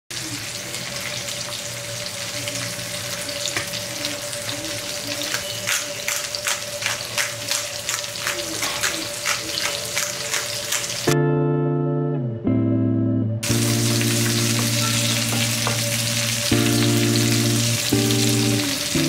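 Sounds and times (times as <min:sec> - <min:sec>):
fish sizzling in oil: 0:00.1 - 0:11.2, 0:13.4 - 0:19.0
oil popping and crackling: 0:00.1 - 0:11.2, 0:13.4 - 0:19.0.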